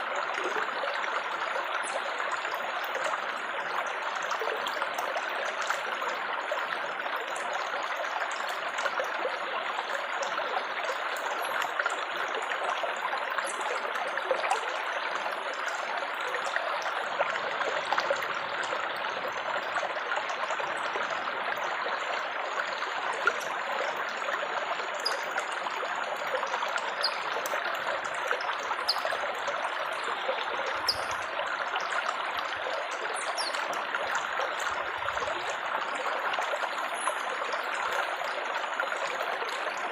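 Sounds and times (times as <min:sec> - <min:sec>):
water babbling and trickling: 0:00.0 - 0:39.9.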